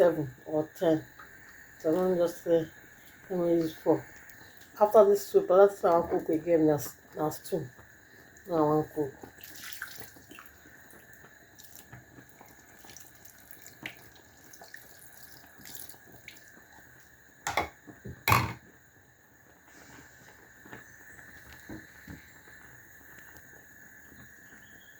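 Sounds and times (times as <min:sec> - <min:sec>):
faint steady hiss: 0:00.0 - 0:24.9
light drip-like ticks: 0:01.0 - 0:02.4, 0:03.0 - 0:04.9, 0:05.7 - 0:17.2, 0:19.5 - 0:24.8.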